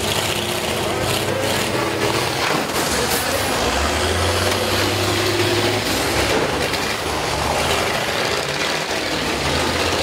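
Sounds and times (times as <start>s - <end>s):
bus engines running: 0.0s - 10.0s.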